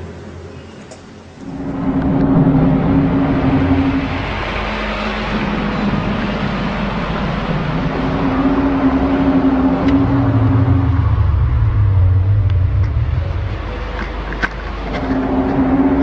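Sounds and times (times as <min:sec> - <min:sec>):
deeper hum: 0:01.3 - 0:16.0
steady rushing noise: 0:01.3 - 0:16.0
low droning trumpet-like hum: 0:01.4 - 0:16.0.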